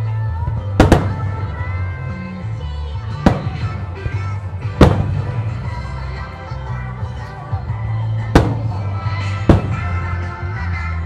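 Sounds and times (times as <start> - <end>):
steady music: 0.0 - 11.0.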